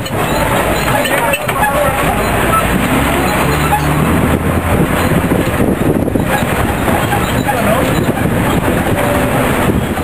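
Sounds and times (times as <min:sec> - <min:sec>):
low engine hum: 0:00.0 - 0:10.0
vehicle road noise from inside: 0:00.0 - 0:10.0.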